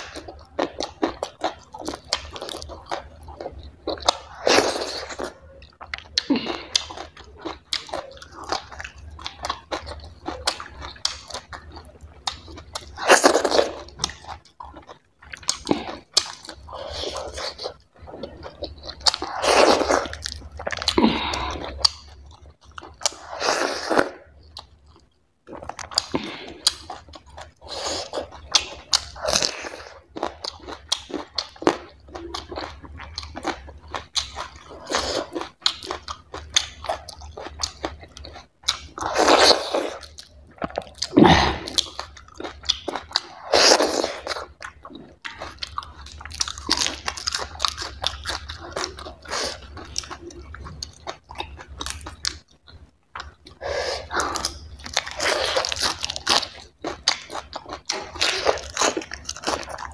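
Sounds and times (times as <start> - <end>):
chewing and wet smacks: 0.0 - 23.4, 24.0 - 59.9.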